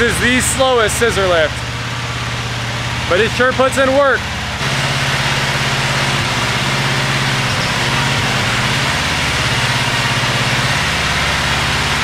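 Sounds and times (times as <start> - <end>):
gas engine running steadily: 0.0 - 12.0.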